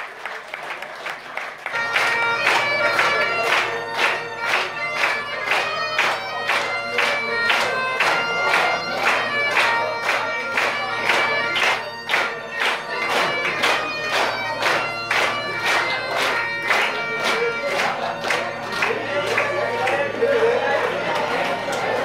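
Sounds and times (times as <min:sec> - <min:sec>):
people clapping in time: 0:00.0 - 0:22.0
bagpipes playing a tune: 0:01.6 - 0:22.0.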